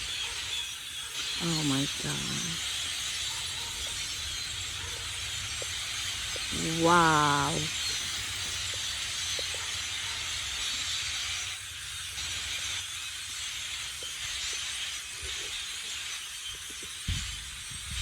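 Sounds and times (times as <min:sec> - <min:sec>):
flock of blackbirds chattering: 0:00.0 - 0:17.1.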